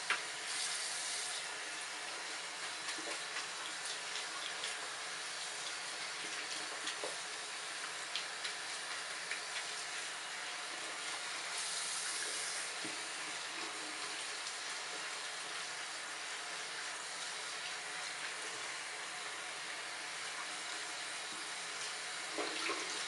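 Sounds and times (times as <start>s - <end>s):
faucet running: 0.3s - 23.0s.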